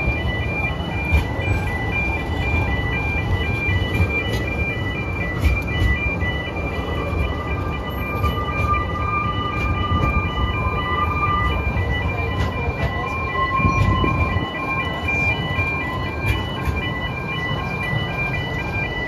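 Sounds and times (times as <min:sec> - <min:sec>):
train carriages rumbling: 0:00.0 - 0:19.0
two-tone crossing alarm: 0:00.0 - 0:19.0.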